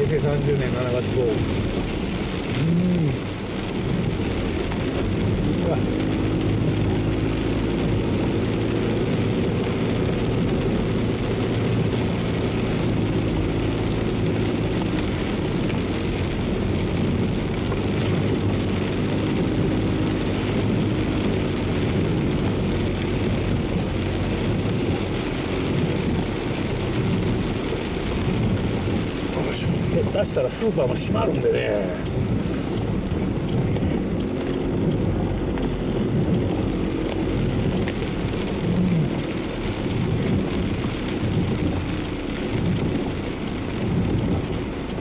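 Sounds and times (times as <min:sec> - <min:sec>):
car engine and tyres humming: 0:00.0 - 0:45.0
rain hitting car: 0:00.0 - 0:45.0.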